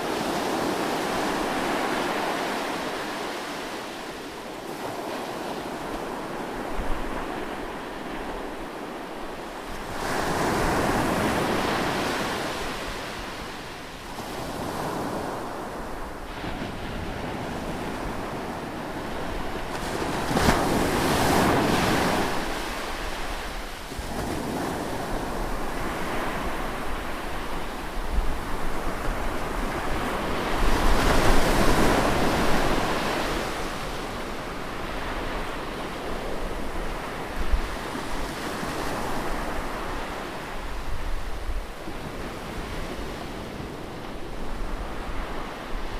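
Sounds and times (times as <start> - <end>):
ocean waves breaking: 0.0 - 45.9
wind rumble on microphone: 0.0 - 45.9.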